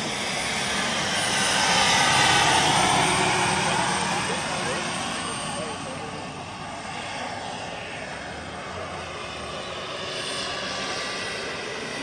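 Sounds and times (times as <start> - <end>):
model helicopter engine and rotors: 0.0 - 12.0.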